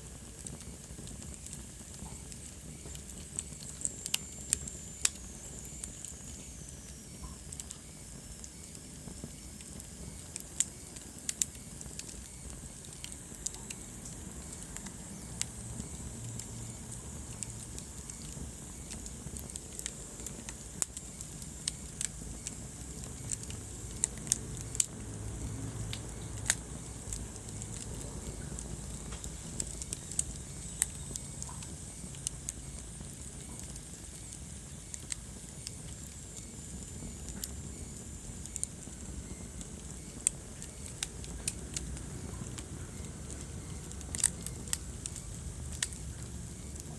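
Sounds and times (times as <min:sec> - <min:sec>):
low rumble of flames: 0:00.0 - 0:46.9
wood fire crackling and popping: 0:00.0 - 0:46.9.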